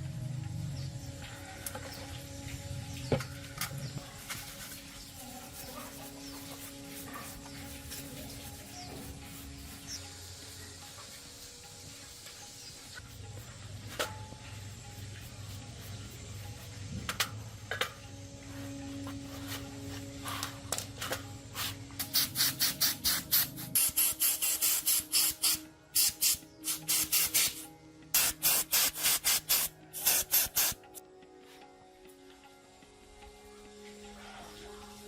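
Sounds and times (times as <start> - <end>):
quiet background music: 0.0 - 35.0.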